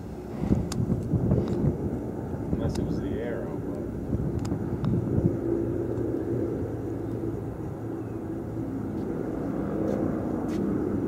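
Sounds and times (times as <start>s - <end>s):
distant engine drone: 0.0s - 11.0s.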